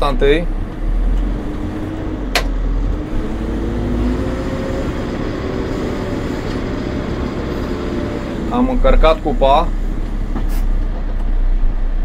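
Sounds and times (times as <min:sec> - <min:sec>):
diesel engine working under load: 0:00.0 - 0:12.0.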